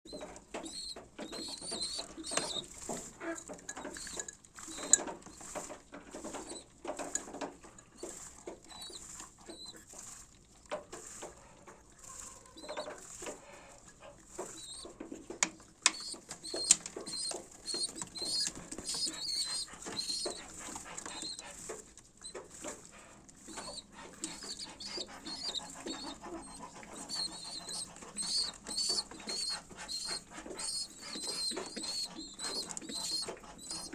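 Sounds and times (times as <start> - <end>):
squabs squeaking: 0.1 - 7.3, 8.0 - 9.9, 12.0 - 33.9
rustling in nest: 0.1 - 33.9.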